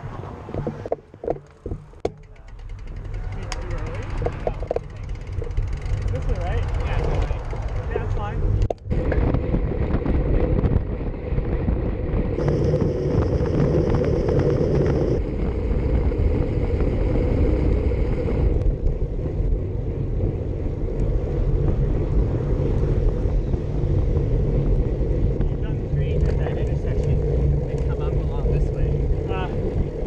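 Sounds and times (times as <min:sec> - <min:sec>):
wind rushing over microphone: 0:02.7 - 0:30.0.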